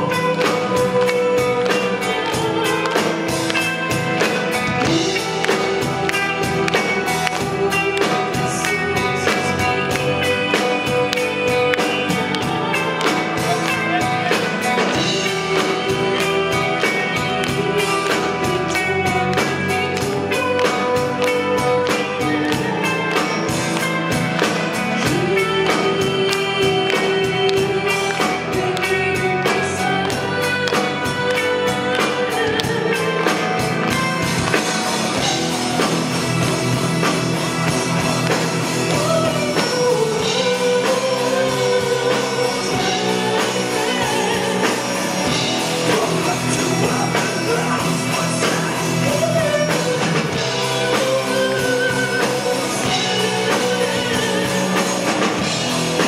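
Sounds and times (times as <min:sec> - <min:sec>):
woman singing into microphone: 0:00.0 - 0:36.5, 0:38.6 - 0:55.6
live band playing fast beat: 0:00.0 - 0:56.0.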